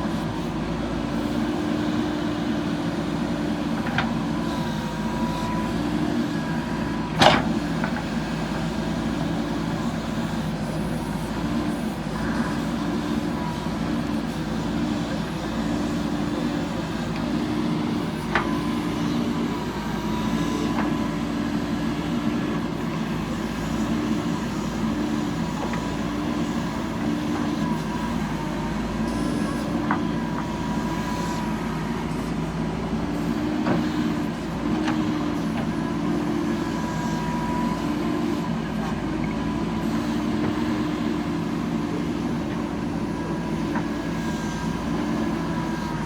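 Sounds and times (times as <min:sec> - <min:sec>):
diesel engine working: 0:00.0 - 0:46.0.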